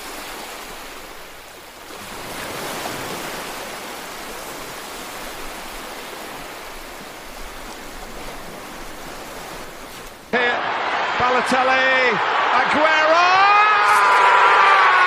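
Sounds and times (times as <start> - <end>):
ocean surf on beach: 0.0 - 15.0.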